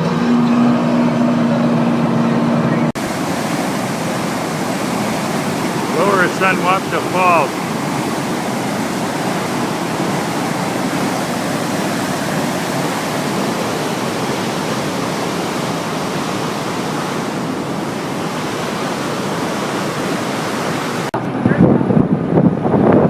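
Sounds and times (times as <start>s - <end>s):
waterfall rushing: 0.8s - 21.2s.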